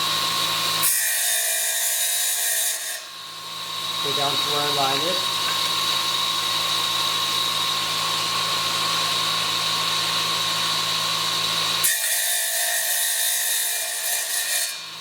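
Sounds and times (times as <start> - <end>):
tile saw cutting tile: 0.0 - 15.0.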